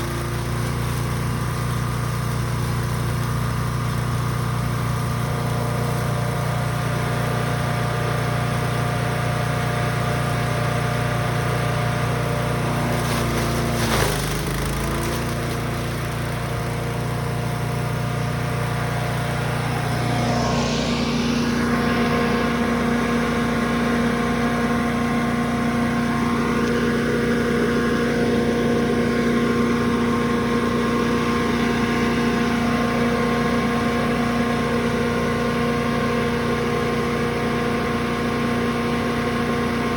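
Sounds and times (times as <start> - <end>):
chipper gas engine running: 0.0 - 39.9.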